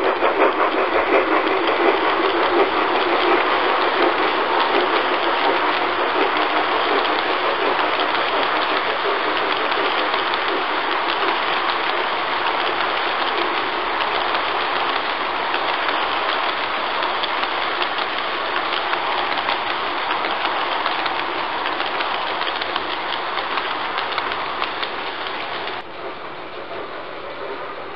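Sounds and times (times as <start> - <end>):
model train wheels rattling: 0.0 - 25.9.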